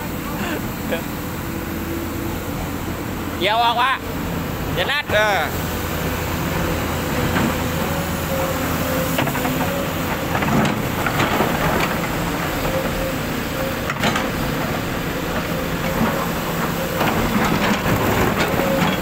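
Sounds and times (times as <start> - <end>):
heavy diesel engines running: 0.0 - 19.0.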